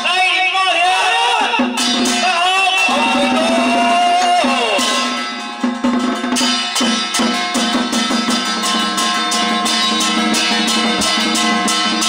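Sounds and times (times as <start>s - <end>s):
barrel drums beaten: 1.6s - 12.0s
ringing gong and cymbals: 1.8s - 12.0s.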